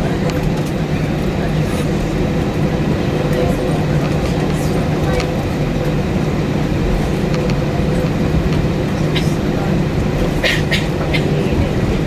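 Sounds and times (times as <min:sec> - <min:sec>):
airplane cabin rumble and hum: 0:00.0 - 0:12.0.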